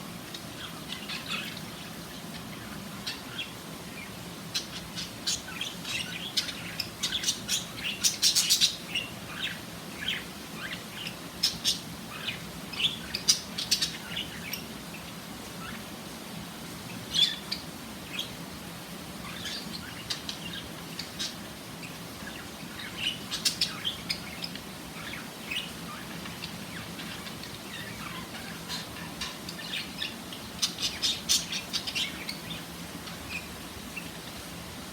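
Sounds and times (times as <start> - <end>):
budgerigars chirping: 0.3 - 14.7, 19.2 - 34.2.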